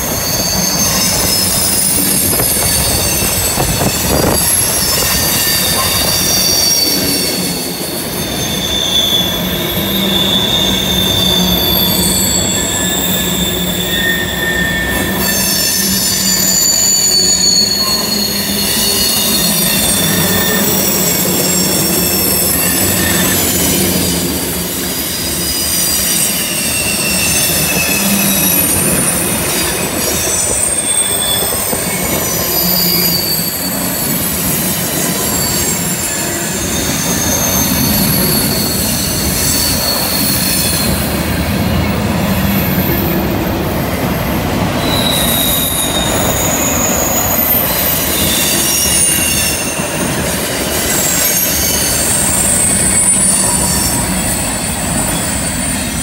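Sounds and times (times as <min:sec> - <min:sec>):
low rumble of rolling train: 0:00.0 - 0:56.0
train wheels squealing on rail: 0:00.0 - 0:56.0.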